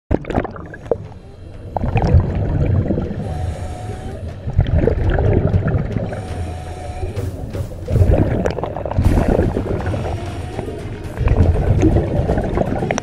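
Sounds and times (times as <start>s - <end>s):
bubbling exhaled air underwater: 0.1s - 13.0s
hissing inhale through regulator: 0.6s - 4.6s, 5.3s - 13.0s.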